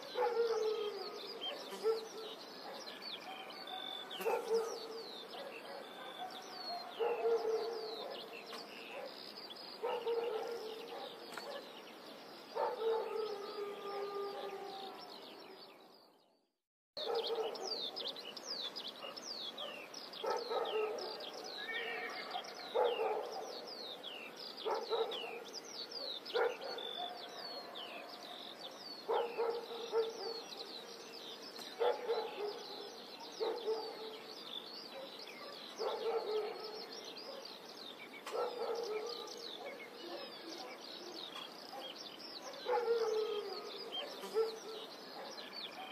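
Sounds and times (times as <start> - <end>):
birds chirping: 0.0 - 16.4, 17.0 - 45.9.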